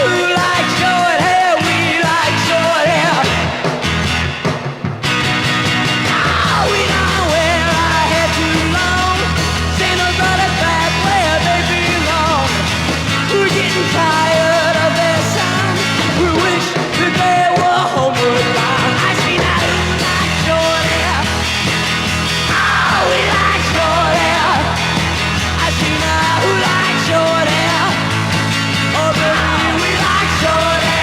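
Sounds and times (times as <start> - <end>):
rock band playing: 0.0 - 31.0
yelled voices: 5.1 - 31.0.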